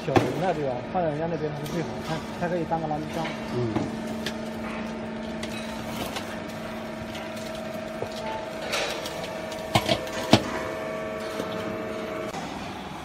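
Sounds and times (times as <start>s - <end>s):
hydraulic motor humming: 0.0s - 13.0s.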